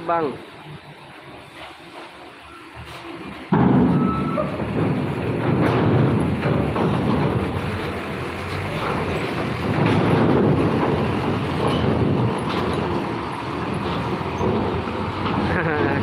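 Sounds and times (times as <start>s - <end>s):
diesel truck engine: 0.0s - 16.0s
tyres rumbling over steel grating: 0.0s - 16.0s.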